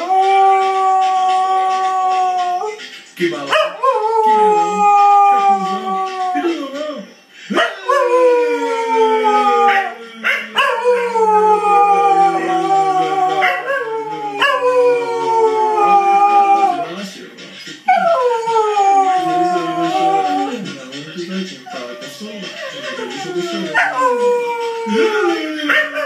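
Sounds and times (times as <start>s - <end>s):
dog howling: 0.0s - 2.8s, 3.5s - 6.8s, 7.5s - 17.0s, 17.9s - 20.7s, 21.7s - 26.0s.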